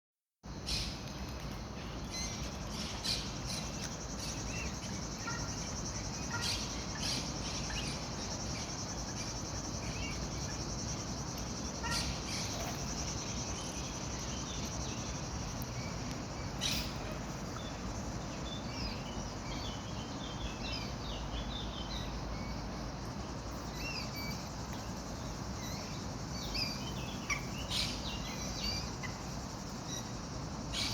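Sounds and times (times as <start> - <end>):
low background noise: 0.4 - 30.9
high insect trill: 0.5 - 30.9
small birds chirping: 0.5 - 30.9.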